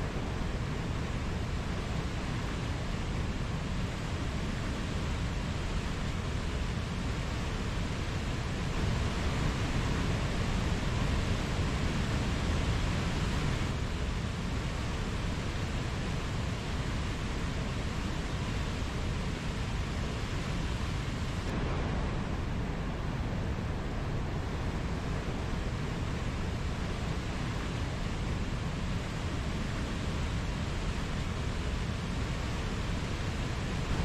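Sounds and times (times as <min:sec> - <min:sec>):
mountain stream rushing: 0:00.0 - 0:34.0.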